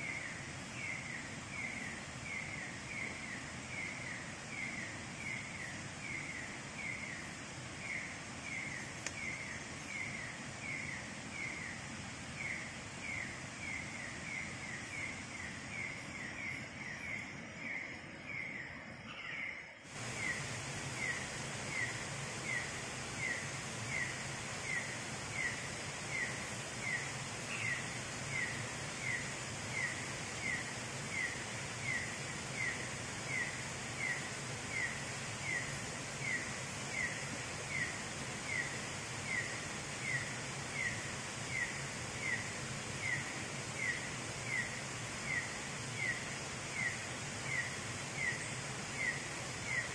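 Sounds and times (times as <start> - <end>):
night insects hissing: 0.0 - 49.9.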